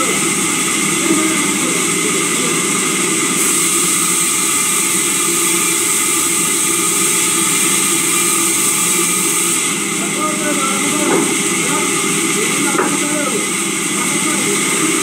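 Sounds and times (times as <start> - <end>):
sawmill saw running: 0.0 - 15.0.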